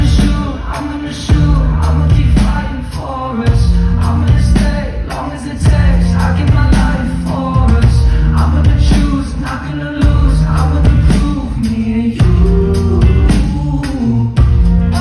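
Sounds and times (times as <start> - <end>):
live pop-rock band: 0.0 - 15.0
person singing: 0.0 - 15.0.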